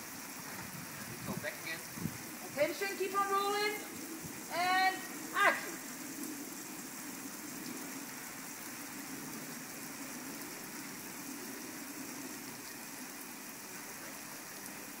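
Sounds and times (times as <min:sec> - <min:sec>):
water hissing on pavement: 0:00.0 - 0:15.0.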